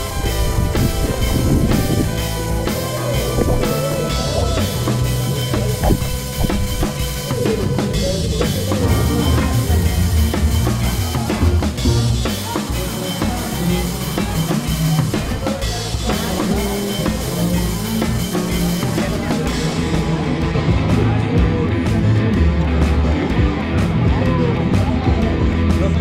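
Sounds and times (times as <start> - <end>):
drum kit: 0.0 - 26.0
rock music: 0.0 - 26.0.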